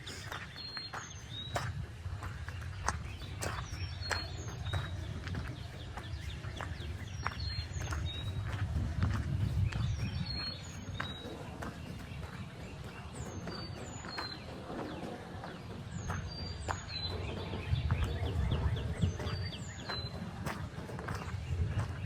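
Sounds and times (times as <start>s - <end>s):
footsteps crunching on forest path: 0.0s - 22.0s
songbirds whistling: 0.0s - 22.0s.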